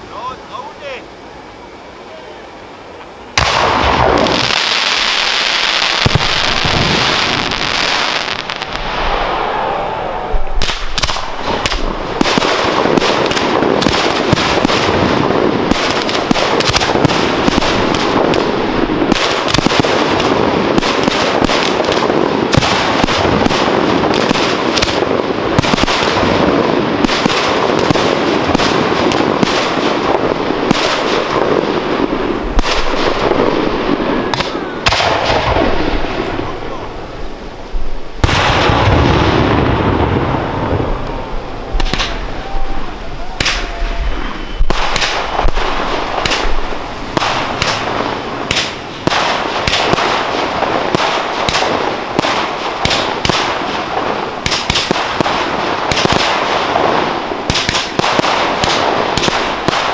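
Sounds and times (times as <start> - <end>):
fireworks bangs and crackles: 2.8 - 59.9.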